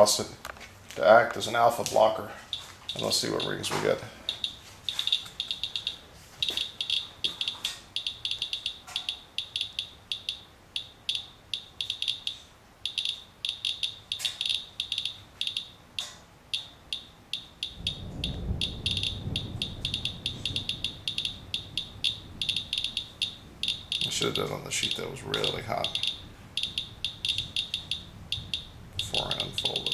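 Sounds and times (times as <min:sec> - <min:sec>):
geiger counter chirping: 0:02.5 - 0:29.9.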